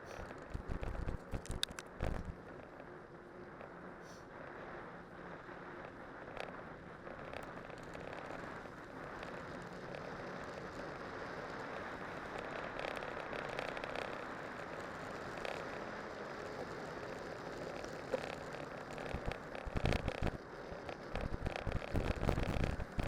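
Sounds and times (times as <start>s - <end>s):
bike tyres rolling on snow: 0.0s - 23.0s
small crackles and ticks: 0.0s - 23.0s.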